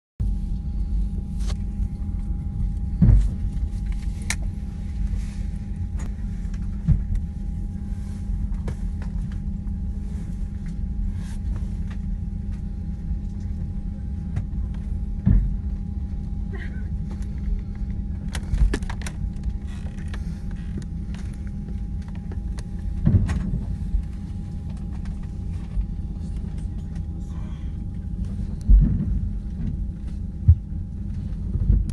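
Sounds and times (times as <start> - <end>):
airliner cabin drone: 0.2 - 31.9.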